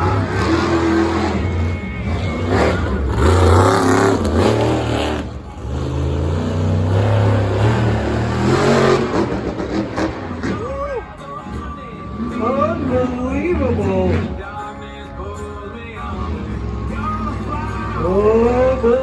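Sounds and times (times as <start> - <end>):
monster truck engine revving: 0.0 - 14.6, 16.0 - 19.0.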